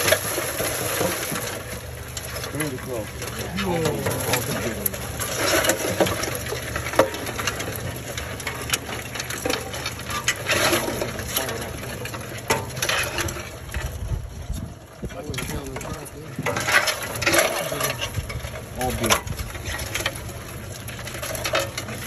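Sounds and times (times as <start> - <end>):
crawfish shells clattering: 0.0 - 22.0
low hum: 0.0 - 22.0.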